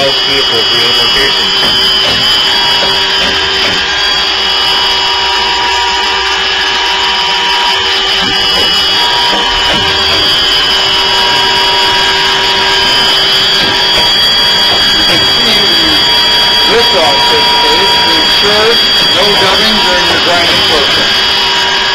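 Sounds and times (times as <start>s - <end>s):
grinding hiss: 0.0s - 6.1s, 8.0s - 21.9s
grinding machine whine: 0.0s - 21.9s.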